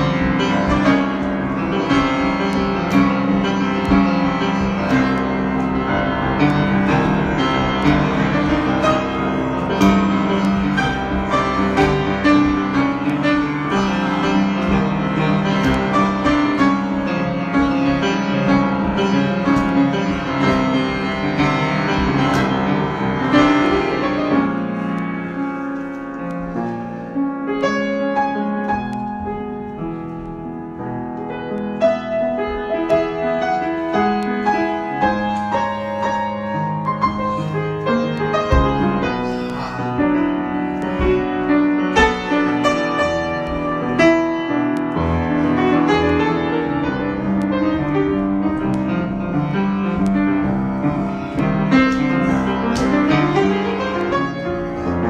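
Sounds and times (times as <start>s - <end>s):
solo grand piano improvisation: 0.0s - 55.0s.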